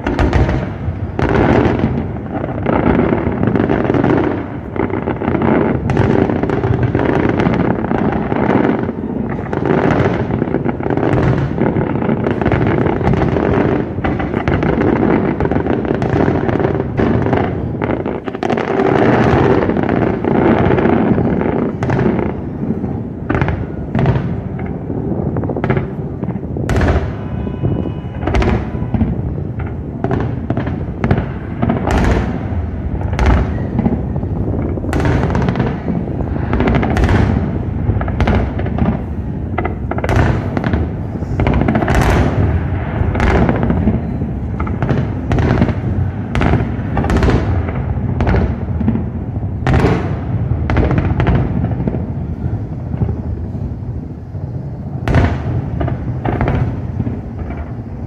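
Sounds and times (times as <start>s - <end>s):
fireworks bangs: 0.0s - 58.0s
low rumble of fireworks bursts: 0.0s - 58.0s.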